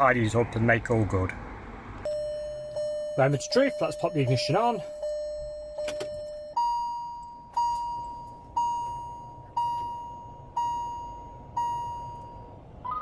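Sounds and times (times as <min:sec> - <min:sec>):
dashboard warning chime: 0:02.0 - 0:13.0.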